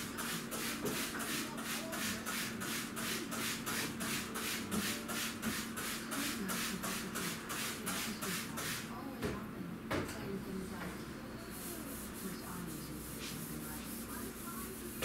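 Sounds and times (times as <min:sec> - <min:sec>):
scrubbing at a sink: 0:00.2 - 0:08.8, 0:11.5 - 0:15.0.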